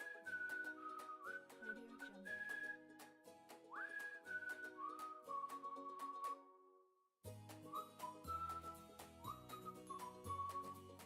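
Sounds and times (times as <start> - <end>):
whistle-like melody: 0.0 - 6.6, 7.5 - 11.0.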